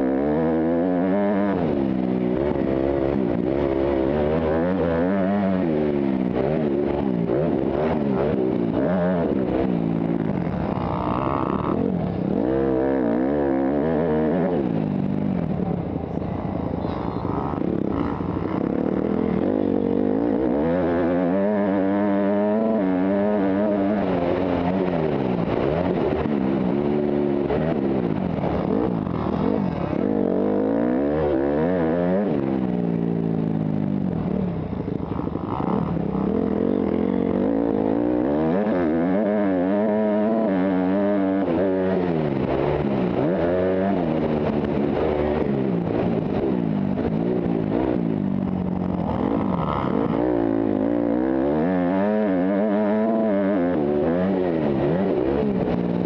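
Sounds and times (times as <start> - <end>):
dirt bike engine revving: 0.0 - 15.4, 16.4 - 56.0.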